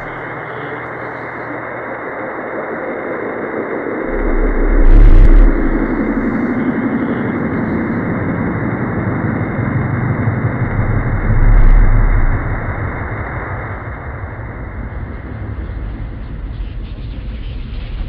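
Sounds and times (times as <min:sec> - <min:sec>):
muffled rumbling: 0:00.0 - 0:02.3, 0:04.0 - 0:17.1.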